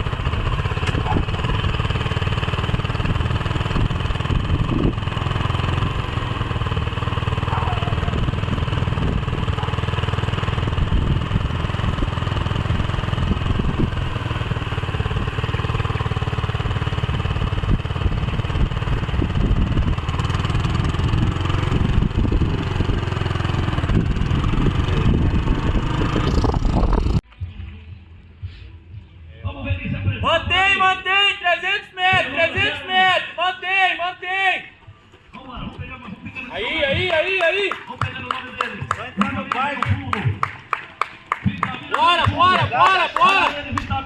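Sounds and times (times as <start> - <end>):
motorcycle engine rumbling: 0.0 - 28.0, 31.8 - 44.0.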